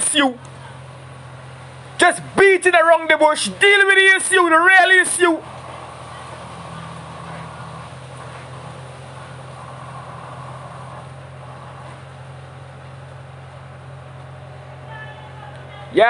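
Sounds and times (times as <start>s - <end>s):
low mechanical motor hum: 0.0s - 16.0s.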